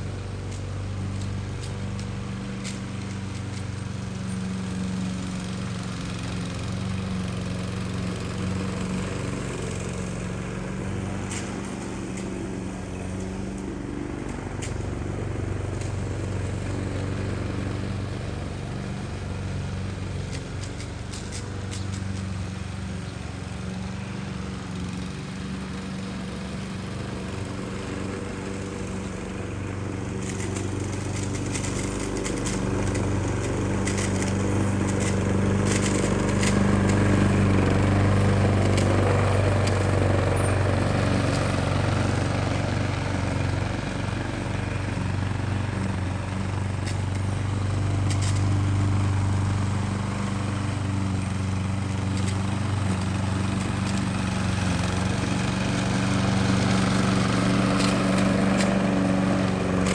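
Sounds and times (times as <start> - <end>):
grass cutter engine running: 0.0 - 59.9.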